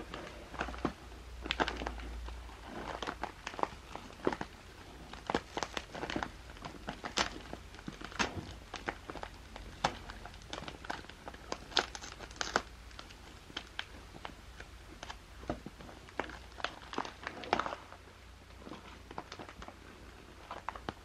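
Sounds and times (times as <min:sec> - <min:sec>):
paper pouch crinkling: 0:00.0 - 0:18.0.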